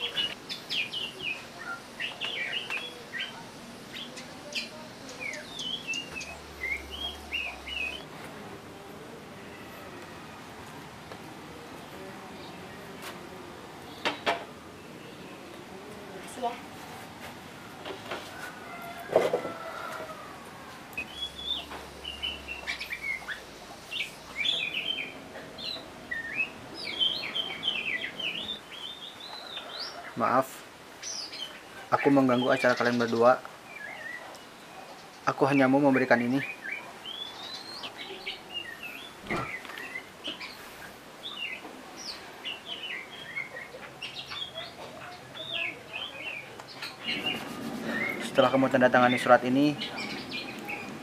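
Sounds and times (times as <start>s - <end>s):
birds chirping and singing: 0.0s - 8.5s, 11.5s - 16.6s, 17.8s - 51.0s.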